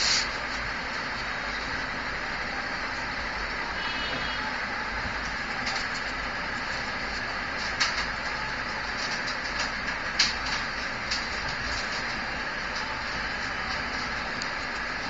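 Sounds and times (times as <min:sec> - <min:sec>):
steady hissing: 0:00.0 - 0:15.0.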